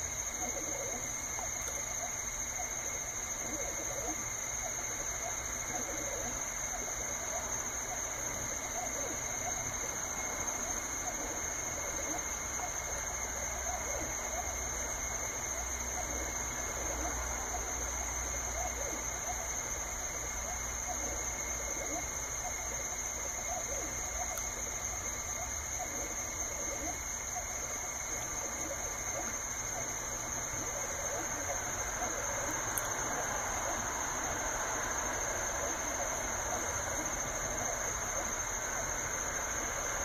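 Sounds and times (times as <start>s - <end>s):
fan hiss with high whine: 0.0s - 40.0s.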